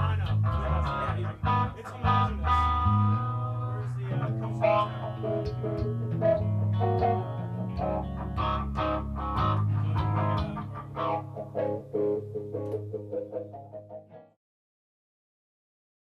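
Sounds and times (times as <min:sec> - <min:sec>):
guitar playing picked notes: 0:00.0 - 0:14.4.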